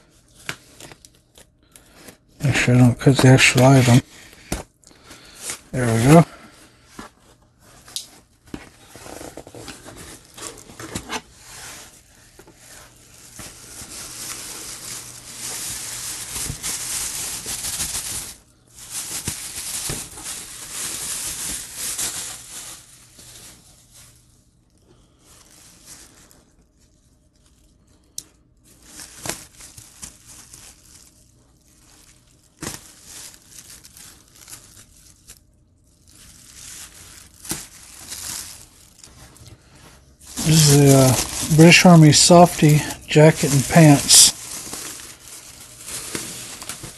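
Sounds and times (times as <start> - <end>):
plastic bag rustling: 1.9 - 46.9.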